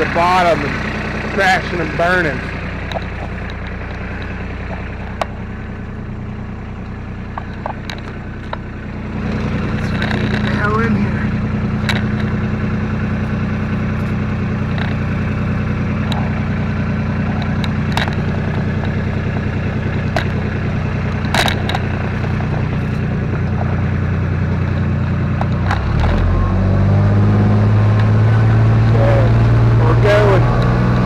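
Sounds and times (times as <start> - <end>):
utility vehicle engine revving: 0.0 - 31.0.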